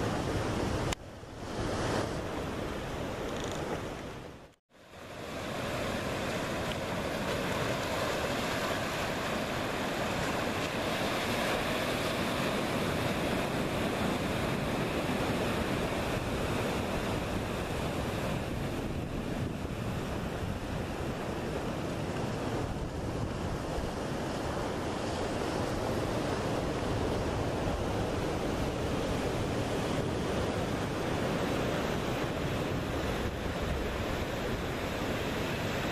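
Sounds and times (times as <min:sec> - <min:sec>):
ocean surf breaking over rocks: 0:04.9 - 0:35.9
wind buffeting the microphone: 0:05.6 - 0:35.9.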